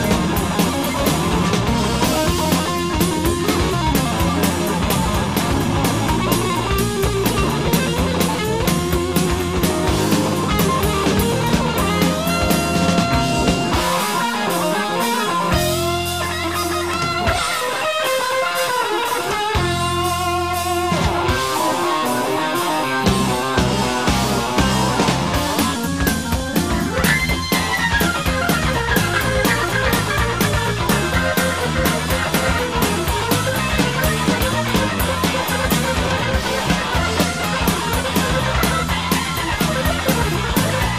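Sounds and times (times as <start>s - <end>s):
rock music with guitar and drums: 0.0s - 40.9s.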